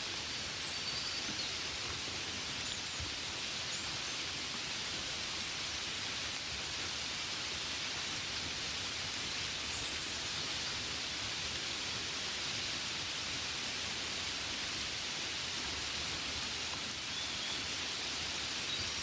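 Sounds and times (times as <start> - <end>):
rain on a window: 0.3 - 19.0.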